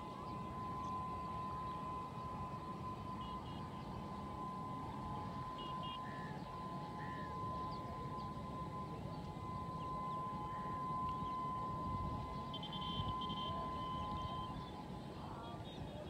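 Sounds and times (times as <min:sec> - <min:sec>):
distant train horn: 0:00.0 - 0:16.0.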